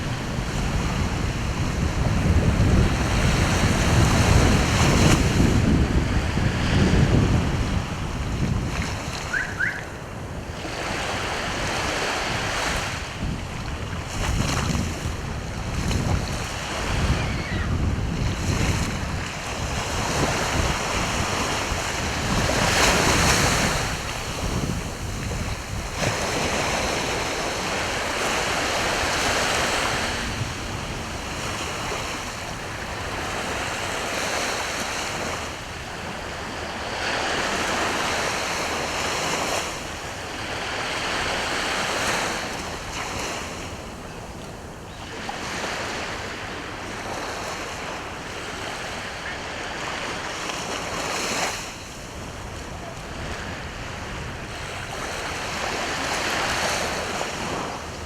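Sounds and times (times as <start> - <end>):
wind buffeting microphone: 0.0 - 49.0, 50.7 - 58.0
sea waves breaking on shore: 0.0 - 58.0.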